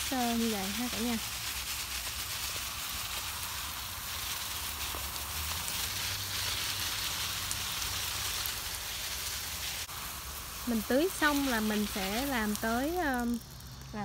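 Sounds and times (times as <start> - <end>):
hose spray hissing on plants: 0.0 - 14.0.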